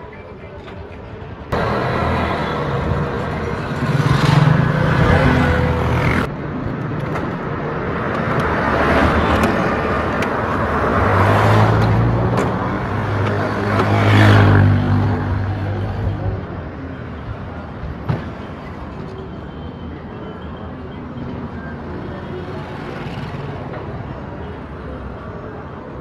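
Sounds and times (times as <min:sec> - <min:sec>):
vehicles passing close by: 0:00.0 - 0:26.0.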